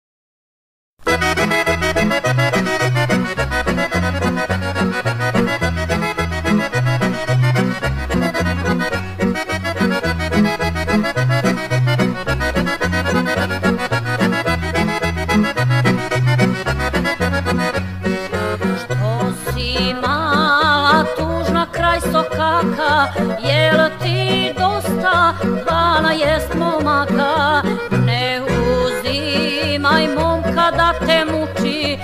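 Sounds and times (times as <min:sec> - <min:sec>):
accordion playing fast melody: 0:01.0 - 0:32.0
bass line: 0:01.1 - 0:32.0.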